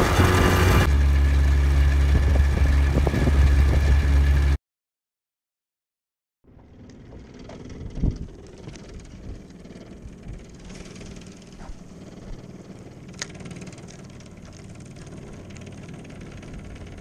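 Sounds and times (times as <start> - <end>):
outboard motor running: 0.0 - 4.6, 6.5 - 17.0.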